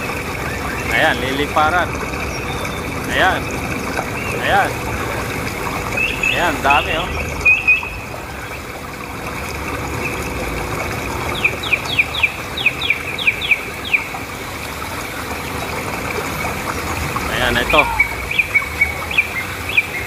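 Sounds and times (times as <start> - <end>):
birds calling sharply: 0.0 - 8.7, 11.3 - 14.4, 15.1 - 20.0
waves washing onto beach: 0.0 - 20.0.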